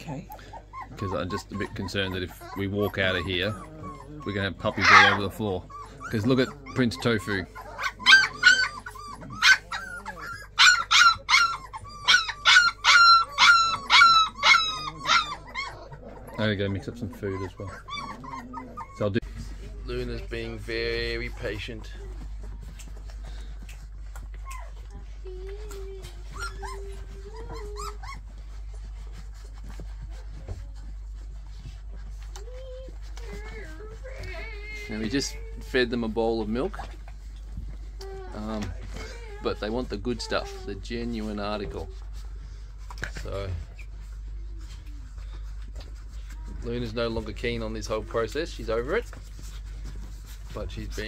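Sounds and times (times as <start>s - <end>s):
puppies yipping and squealing: 0.0s - 51.0s
shuffling: 0.0s - 51.0s.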